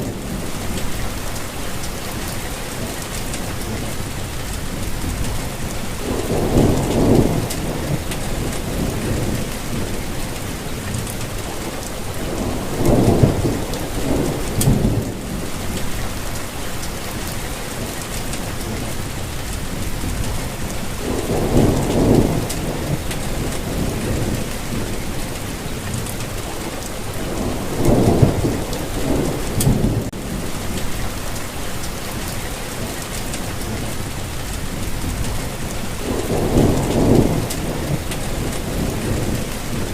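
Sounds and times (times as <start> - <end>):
rolling thunder rumbles: 0.0 - 39.9
steady rain falling: 0.0 - 39.9.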